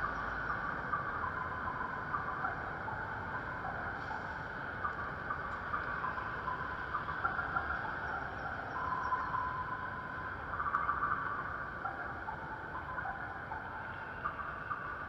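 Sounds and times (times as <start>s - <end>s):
longer steady tone: 0.0s - 15.0s
traffic: 0.0s - 15.0s.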